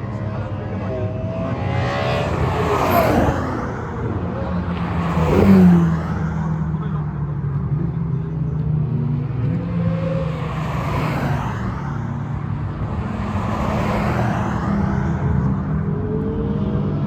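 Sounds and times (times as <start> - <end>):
sports cars driving past: 0.0 - 17.0.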